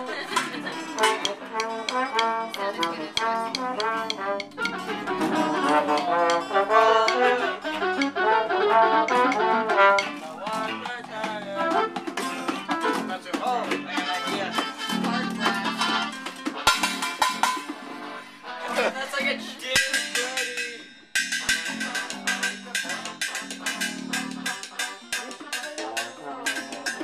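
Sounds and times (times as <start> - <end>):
trombone melody: 0.0 - 13.3, 14.0 - 19.2, 19.8 - 27.0.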